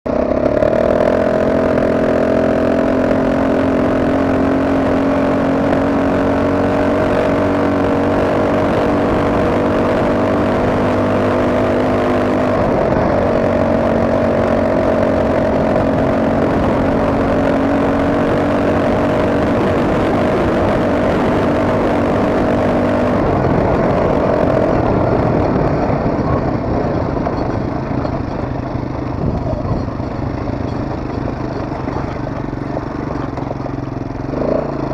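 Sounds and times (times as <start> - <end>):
quad bike engine running: 0.1 - 34.9.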